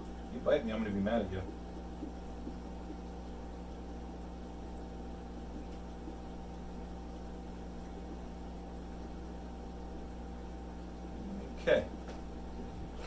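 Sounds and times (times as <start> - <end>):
aquarium air pumps humming: 0.0 - 13.0.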